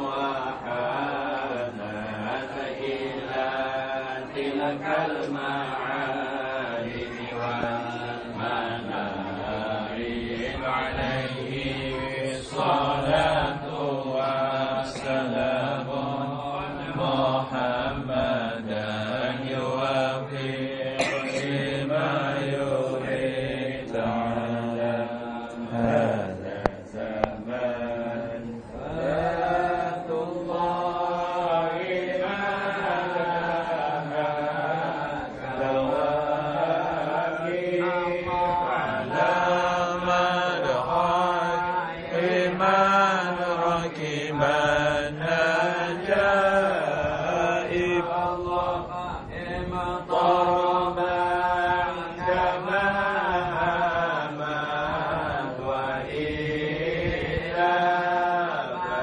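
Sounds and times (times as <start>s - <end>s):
men chanting: 0.0s - 59.0s.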